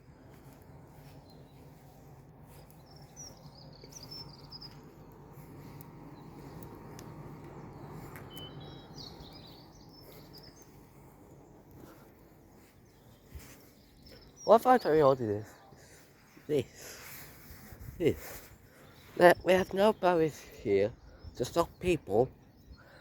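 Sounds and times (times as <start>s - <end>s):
low outdoor hum: 0.0s - 23.0s
small birds chirping: 0.0s - 23.0s.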